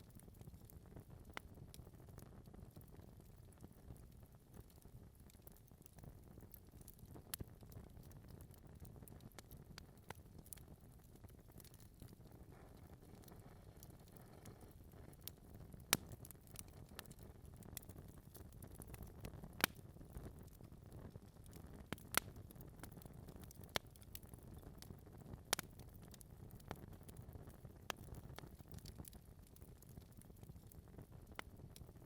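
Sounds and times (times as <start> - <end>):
log fire low rumble: 0.0 - 32.0
wood crackling and popping: 0.0 - 32.0.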